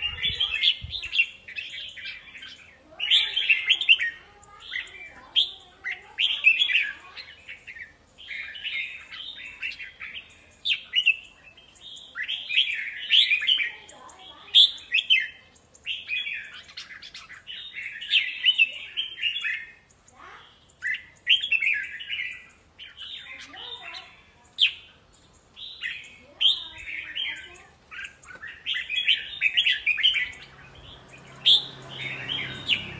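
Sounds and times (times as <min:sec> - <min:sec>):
birds warbling: 0:00.0 - 0:32.9.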